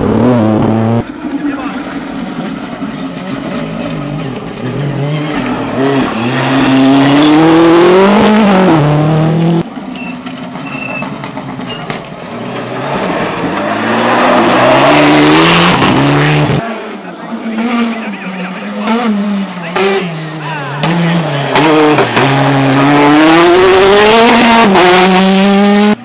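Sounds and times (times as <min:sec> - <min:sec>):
rally car engine revving: 0:00.0 - 0:26.0
rally car passing: 0:00.0 - 0:26.0.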